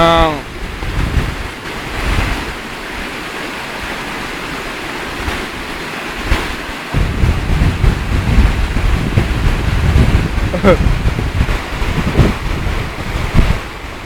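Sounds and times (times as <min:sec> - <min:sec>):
waterfall rushing: 0:00.0 - 0:14.0
wind buffeting microphone: 0:00.0 - 0:14.0.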